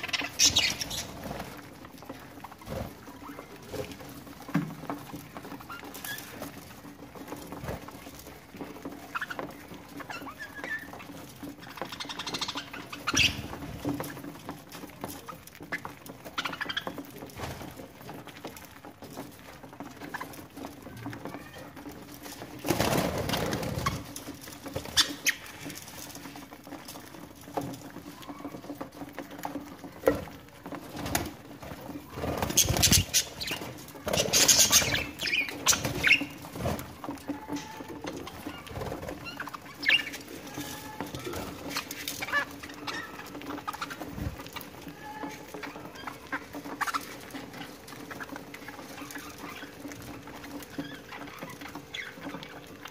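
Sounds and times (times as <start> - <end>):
birds pecking at seed: 0.0 - 52.9
rustling: 0.0 - 52.9.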